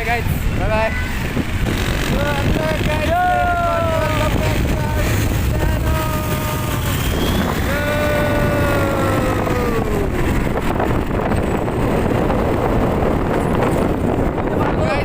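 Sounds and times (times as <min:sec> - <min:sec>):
wind buffeting microphone: 0:00.0 - 0:15.0
motorcycle engine rumble: 0:01.1 - 0:14.6
engine whine: 0:01.2 - 0:14.6.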